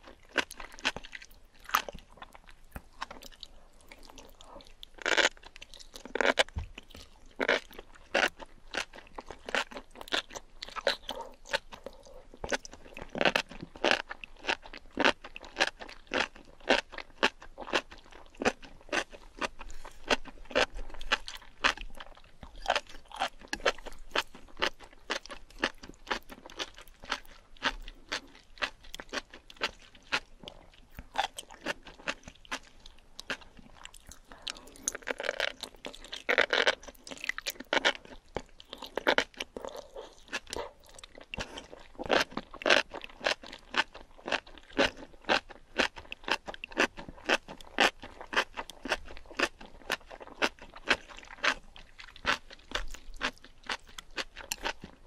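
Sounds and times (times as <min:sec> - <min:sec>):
wet crunchy chewing: 0:00.0 - 0:55.0.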